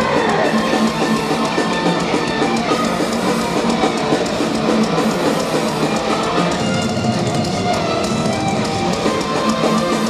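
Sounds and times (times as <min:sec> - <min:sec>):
metal band playing live: 0:00.0 - 0:10.0.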